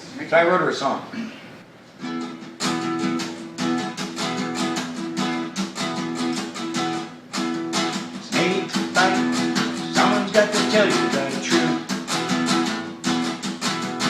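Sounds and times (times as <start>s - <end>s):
guitar strumming chords: 2.0s - 14.0s.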